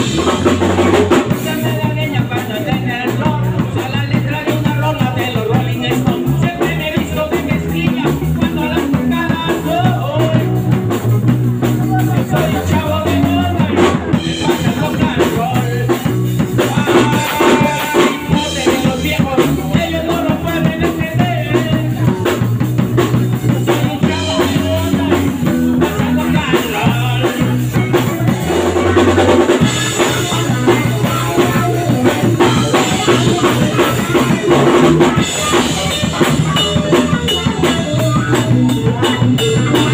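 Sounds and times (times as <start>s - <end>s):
drum kit beat: 0.0s - 39.9s
electric bass: 0.0s - 39.9s
electric guitar: 0.0s - 39.9s.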